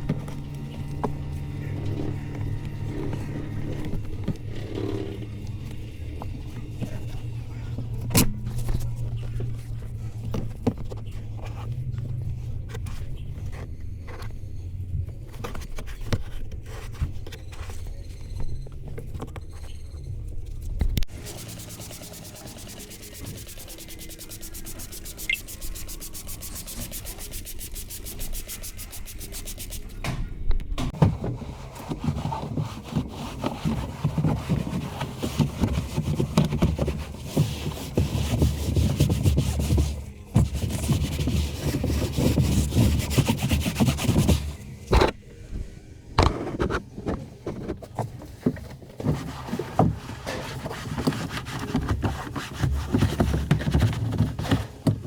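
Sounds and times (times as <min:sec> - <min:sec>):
rubbing and scraping on surface: 0:00.0 - 0:18.2, 0:21.1 - 0:30.0, 0:31.1 - 0:45.2, 0:46.2 - 0:55.0.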